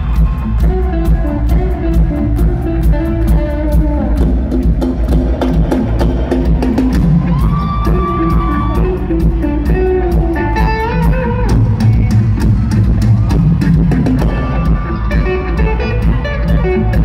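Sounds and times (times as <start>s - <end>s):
electric guitar: 0.0s - 17.0s.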